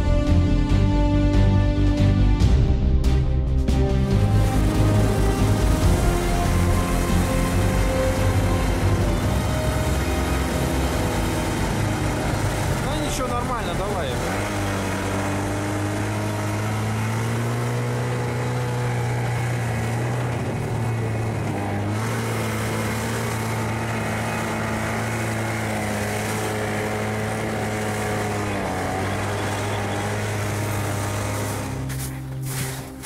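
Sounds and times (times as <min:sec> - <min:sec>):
snowmobile engine running: 0:03.7 - 0:33.0.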